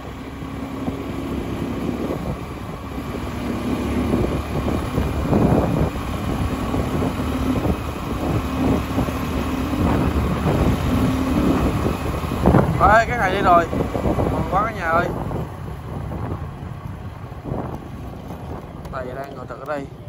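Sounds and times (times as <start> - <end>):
motorbike engine running: 0.0 - 20.0
wind buffeting microphone: 0.0 - 20.0.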